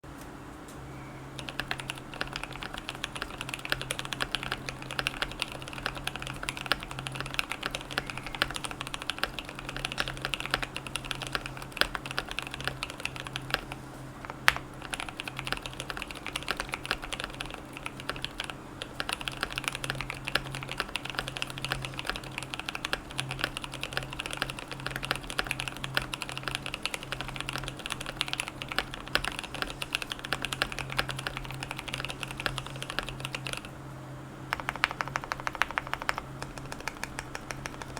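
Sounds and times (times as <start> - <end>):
faint steady hum: 0.0 - 37.9
typing on mechanical keyboard: 1.4 - 33.7, 34.5 - 37.9.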